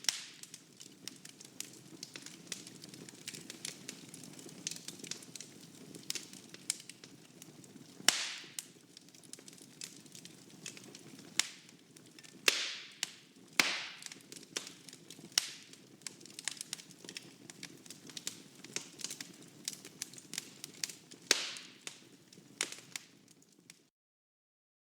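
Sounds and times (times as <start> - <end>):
fire crackling and popping: 0.0 - 23.9
low rumble of flames: 0.1 - 23.7.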